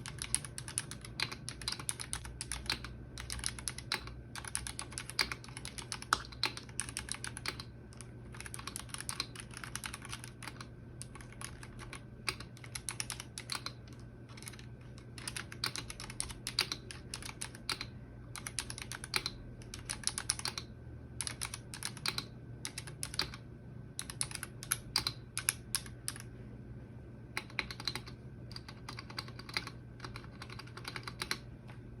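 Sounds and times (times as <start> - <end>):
mechanical keyboard typing: 0.0 - 26.3, 27.3 - 31.5.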